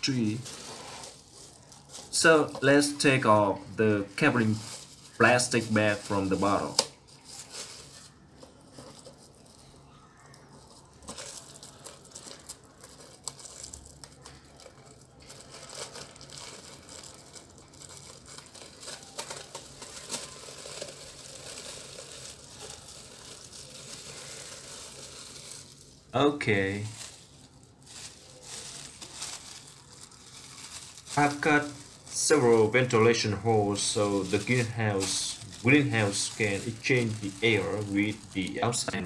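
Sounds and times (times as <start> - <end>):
plastic bag crinkling: 0.0 - 39.0.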